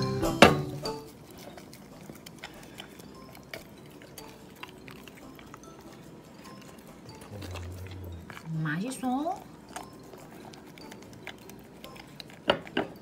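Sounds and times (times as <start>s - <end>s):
dog chewing and licking: 0.0s - 13.0s
teeth clicking against bowl: 0.0s - 13.0s.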